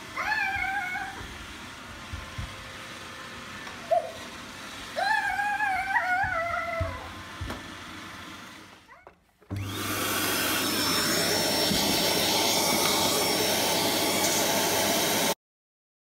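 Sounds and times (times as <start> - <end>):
vacuum cleaner sucking air: 0.0 - 8.8, 9.5 - 15.4.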